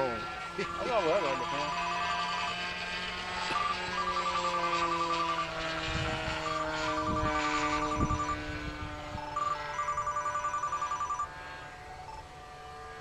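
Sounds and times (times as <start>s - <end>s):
phone ringtone trills: 0.0s - 12.4s
model airplane engine droning: 0.0s - 13.0s.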